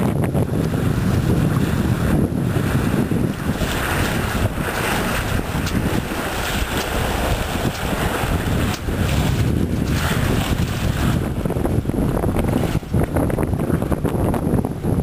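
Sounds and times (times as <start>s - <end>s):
water rushing along a hull: 0.0s - 15.0s
wind buffeting the microphone: 0.0s - 15.0s.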